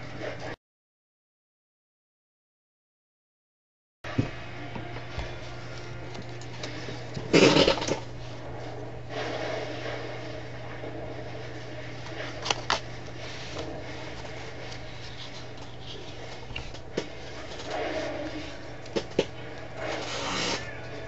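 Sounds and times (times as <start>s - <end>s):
low hum: 4.1s - 21.0s.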